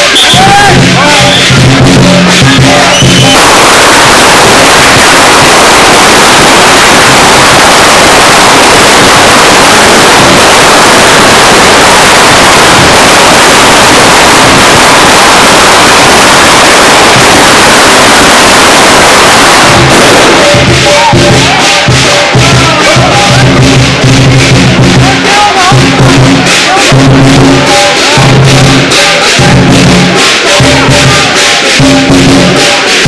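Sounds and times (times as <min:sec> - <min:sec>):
firecrackers crackling: 0:00.0 - 0:33.0.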